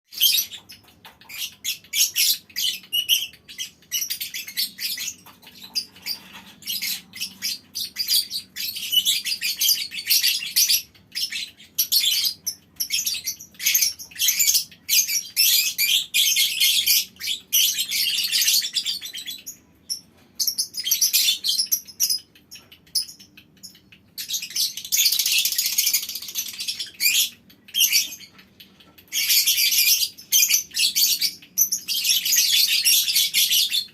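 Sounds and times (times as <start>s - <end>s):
lovebirds chattering: 0.1s - 33.9s.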